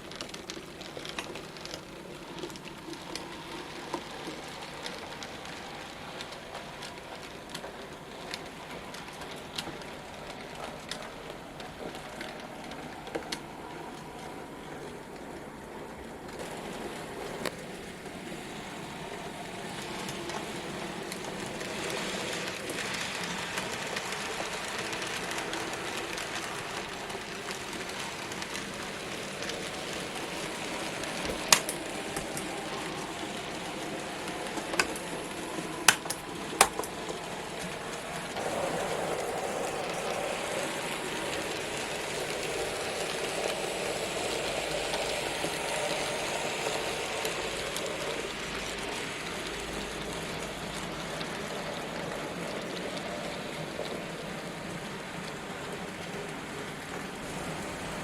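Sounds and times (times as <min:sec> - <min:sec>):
model trains whirring on track: 0:00.0 - 0:58.0.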